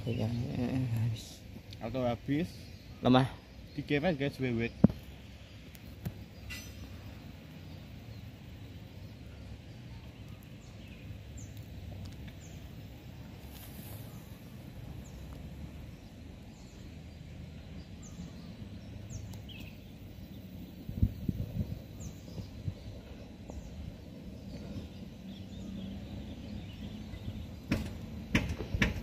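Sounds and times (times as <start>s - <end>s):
low outdoor rumble: 0.0s - 29.0s.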